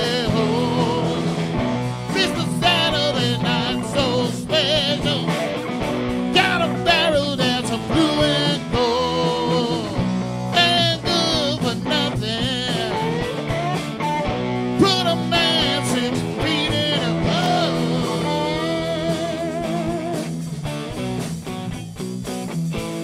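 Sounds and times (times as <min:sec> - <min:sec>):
man singing: 0:00.0 - 0:05.6, 0:06.2 - 0:13.7, 0:14.7 - 0:20.4
bass guitar: 0:00.0 - 0:23.0
drums: 0:00.0 - 0:23.0
electric guitars: 0:00.0 - 0:23.0.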